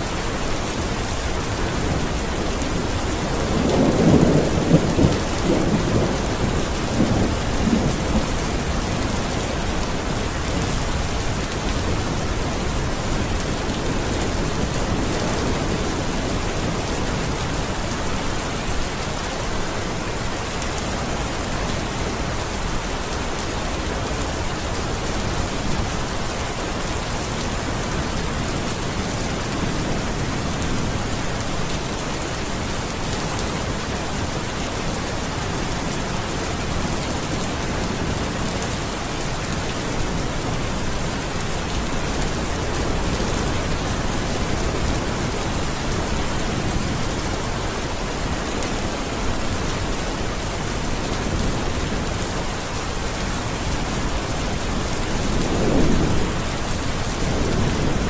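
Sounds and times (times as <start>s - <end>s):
steady rain falling: 0.0s - 58.0s
low rumble of thunder: 0.6s - 58.0s.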